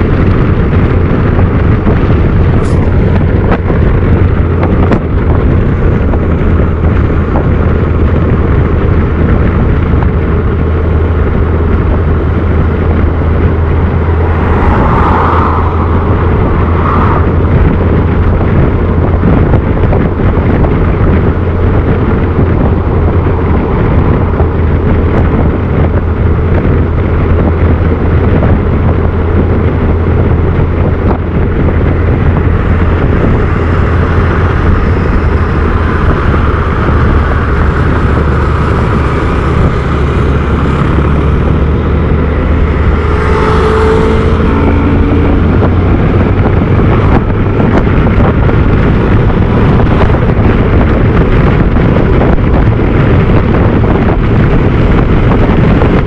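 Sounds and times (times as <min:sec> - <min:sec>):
motorcycle engine humming: 0:00.0 - 0:56.0
wind buffeting microphone: 0:00.0 - 0:56.0.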